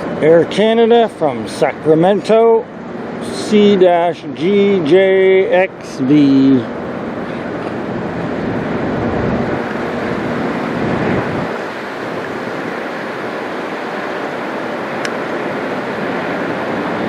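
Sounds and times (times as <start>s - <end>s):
jet airliner passing overhead: 0.0s - 17.0s
wind buffeting microphone: 0.0s - 17.0s.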